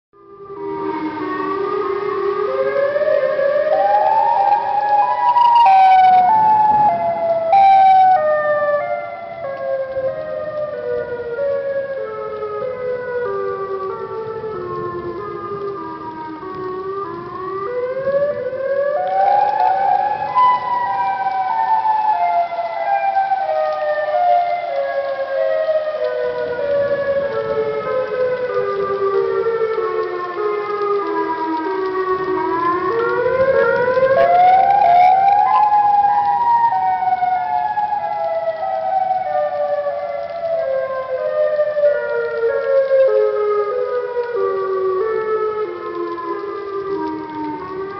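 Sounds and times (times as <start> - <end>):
tornado warning siren wailing: 0.2 - 47.9.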